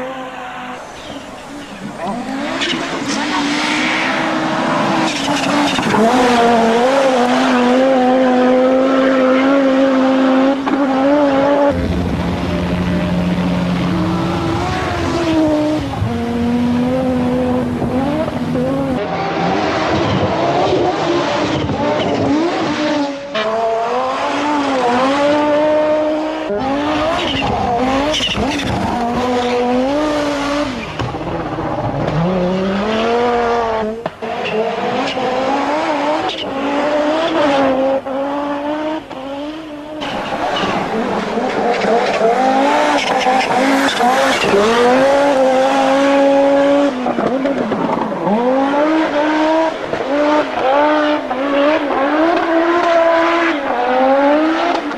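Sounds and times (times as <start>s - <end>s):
racing car engine revving: 0.0s - 54.9s.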